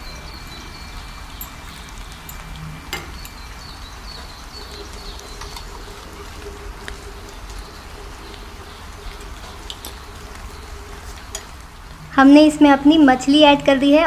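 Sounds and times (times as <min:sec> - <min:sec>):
gravy bubbling in a pan: 0:00.0 - 0:13.1.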